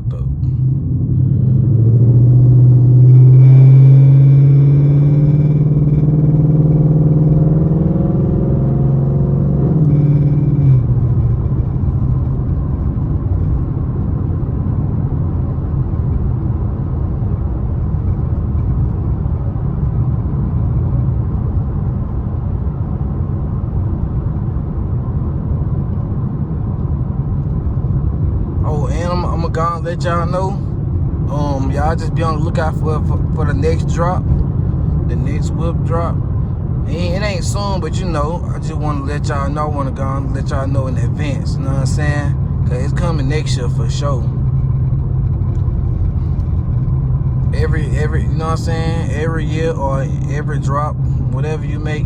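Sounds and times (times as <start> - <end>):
car engine droning under load: 0.0 - 52.0
road and tyre rumble: 0.0 - 52.0.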